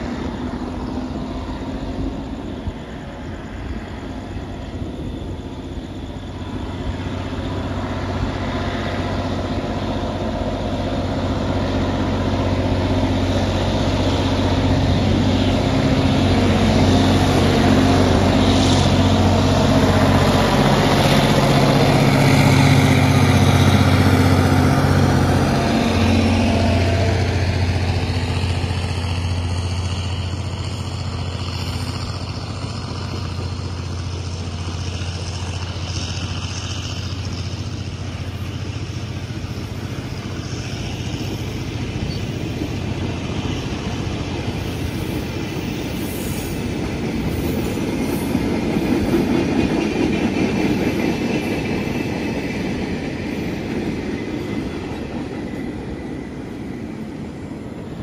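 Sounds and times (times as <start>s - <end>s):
diesel locomotive engine drone: 0.0s - 58.0s
wheel and rail noise: 0.0s - 58.0s.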